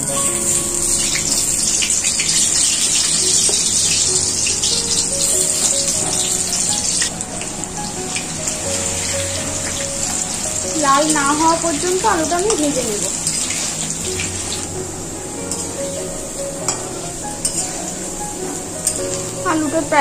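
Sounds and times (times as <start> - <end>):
potatoes sizzling in hot oil: 0.0 - 20.0
soft background music: 0.0 - 20.0.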